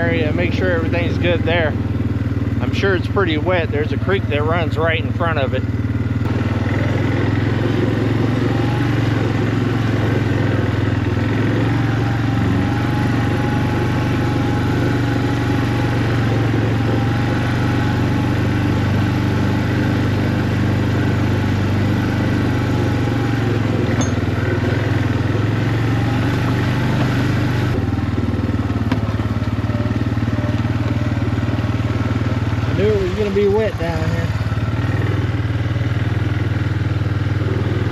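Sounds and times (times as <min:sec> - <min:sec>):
vehicle engine running: 0:00.0 - 0:37.9.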